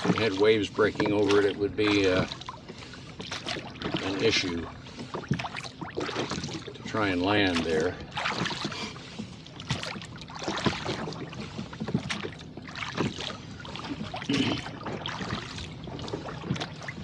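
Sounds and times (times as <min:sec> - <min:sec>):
water slapping against boat hull: 0:00.0 - 0:17.0.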